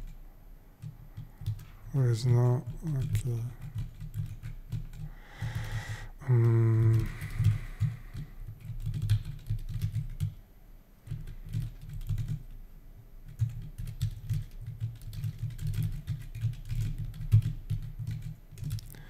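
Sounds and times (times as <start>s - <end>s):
computer keyboard typing: 0.0s - 0.2s, 0.8s - 10.4s, 11.0s - 12.6s, 13.2s - 19.0s.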